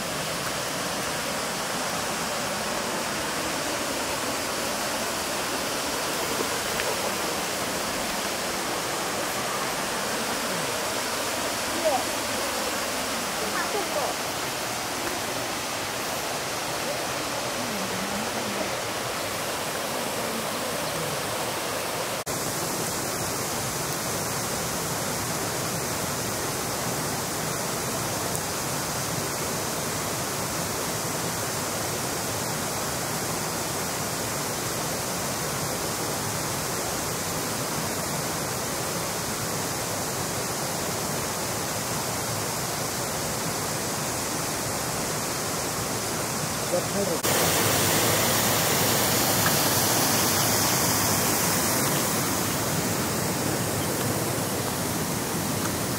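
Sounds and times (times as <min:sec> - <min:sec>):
steady rushing hiss: 0:00.0 - 0:55.9.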